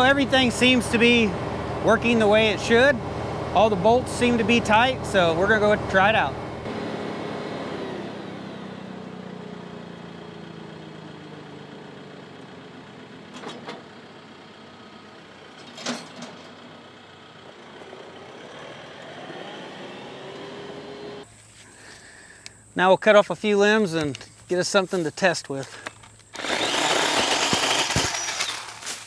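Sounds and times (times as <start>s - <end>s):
tractor diesel engine running: 0.0s - 22.7s, 24.0s - 29.0s.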